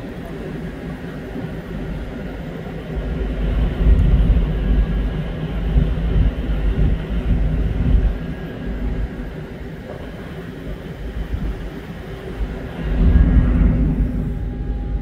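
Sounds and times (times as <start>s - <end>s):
faint hum: 0.0s - 15.0s
ship engine rumble: 0.0s - 15.0s
wind buffeting microphone: 0.0s - 15.0s.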